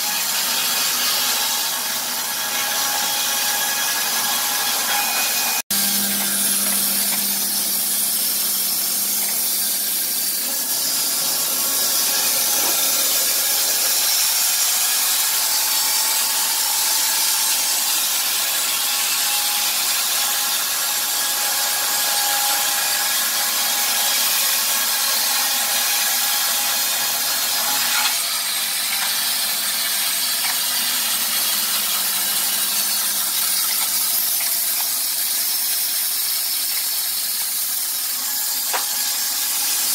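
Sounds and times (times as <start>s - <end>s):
bandsaw mill cutting timber: 0.0s - 39.9s.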